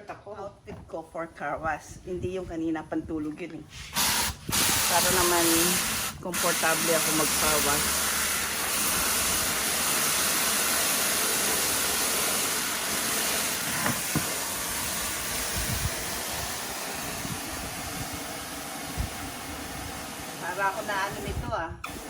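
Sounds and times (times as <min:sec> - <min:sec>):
water running from a hose: 0:03.8 - 0:22.0.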